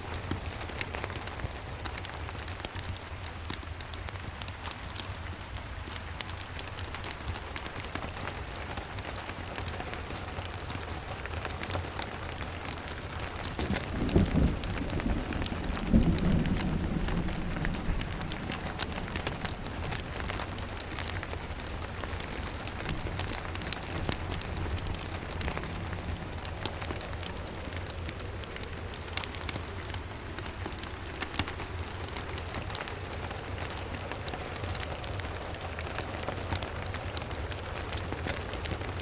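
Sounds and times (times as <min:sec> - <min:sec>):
steady rain: 0:00.0 - 0:39.0
wood fire crackling: 0:05.8 - 0:39.0.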